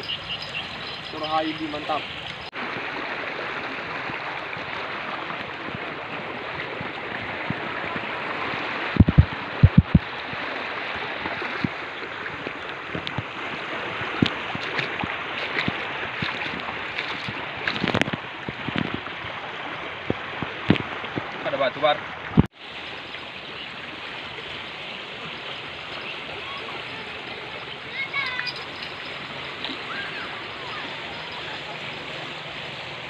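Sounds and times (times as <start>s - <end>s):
river rushing: 0.0s - 33.0s.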